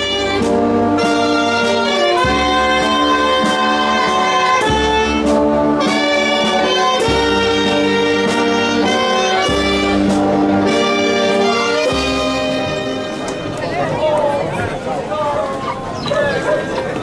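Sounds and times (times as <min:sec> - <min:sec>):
brass band playing slow march: 0:00.0 - 0:15.1.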